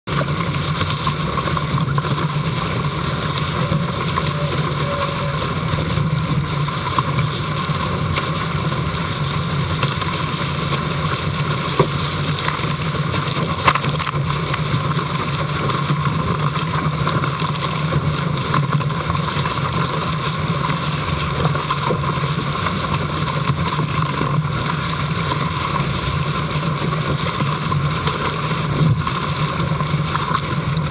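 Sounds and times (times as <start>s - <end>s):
water splashing past hull: 0.1s - 30.9s
wind on microphone: 0.1s - 30.9s.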